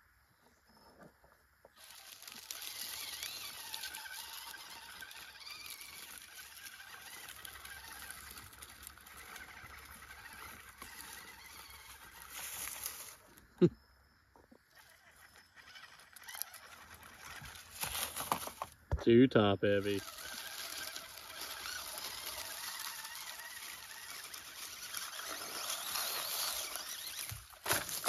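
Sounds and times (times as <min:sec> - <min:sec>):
toy car motor whining: 0:01.7 - 0:13.6, 0:14.5 - 0:18.8, 0:19.7 - 0:28.0
tyres scrabbling through leaves: 0:01.8 - 0:13.4, 0:14.7 - 0:18.8, 0:19.7 - 0:28.0.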